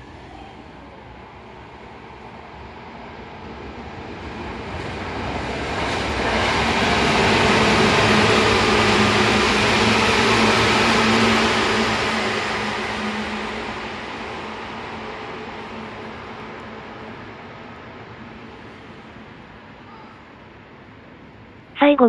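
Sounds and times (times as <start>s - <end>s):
train wheels rumbling on rails: 0.0s - 19.8s.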